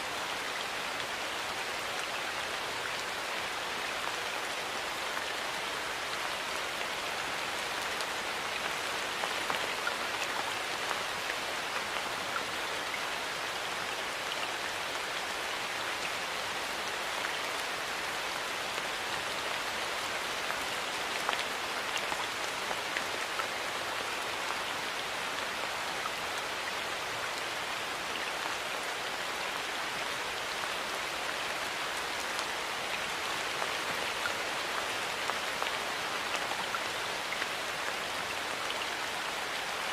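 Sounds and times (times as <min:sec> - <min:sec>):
rain pattering on surfaces: 0:00.1 - 0:39.9.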